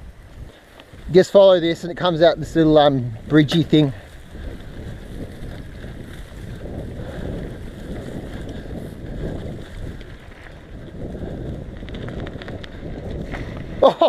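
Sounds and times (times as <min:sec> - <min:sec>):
bicycle rumbling on dirt track: 0:00.0 - 0:14.0
wind buffeting microphone: 0:00.0 - 0:14.0.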